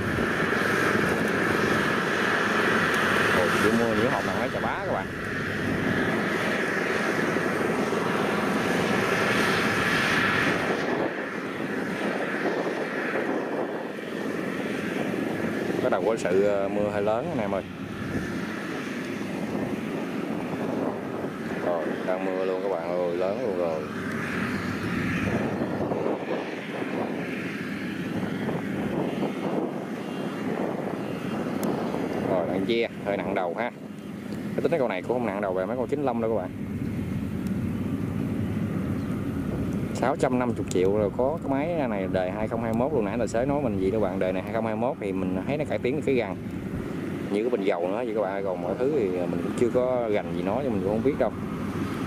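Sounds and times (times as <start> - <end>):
combine harvester droning: 0.0 - 52.0.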